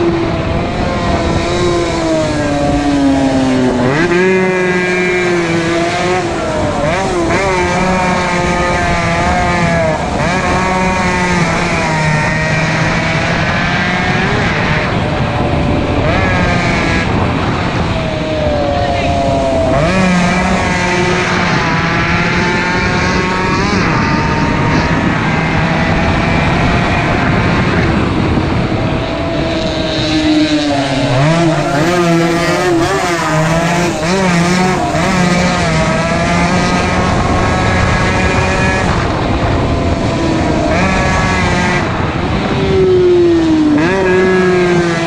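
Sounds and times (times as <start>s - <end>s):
racing motorcycle engines revving: 0.0s - 45.0s.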